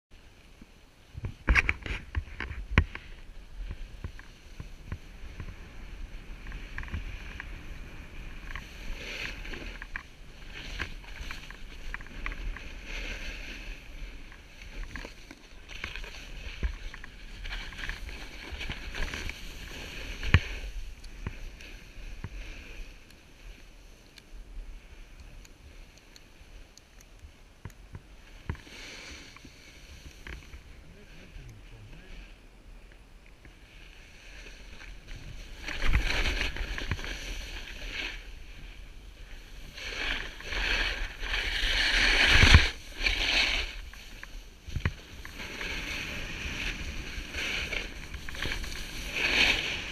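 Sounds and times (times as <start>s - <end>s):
snowboard scraping on snow: 1.0s - 25.8s, 28.1s - 32.4s, 33.6s - 49.9s.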